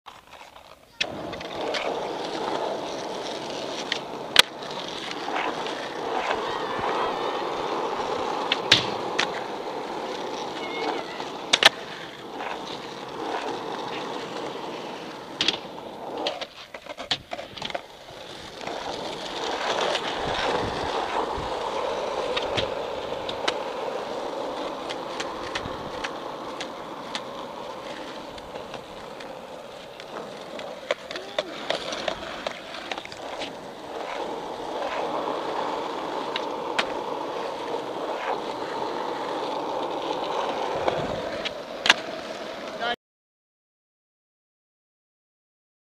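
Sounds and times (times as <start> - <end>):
skateboard clacking on ground: 0.1 - 42.9
skateboard wheels rolling on concrete: 0.1 - 43.0.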